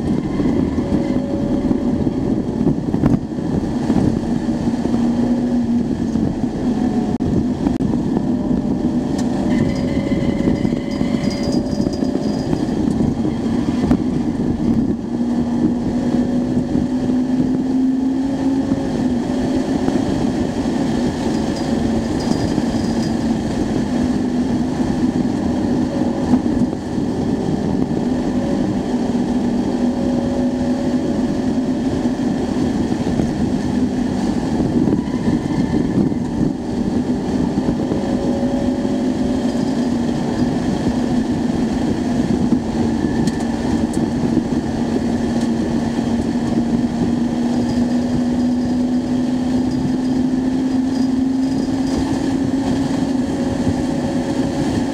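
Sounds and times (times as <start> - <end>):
car engine accelerating and shifting: 0.0 - 54.9
road and wind noise: 0.0 - 54.9.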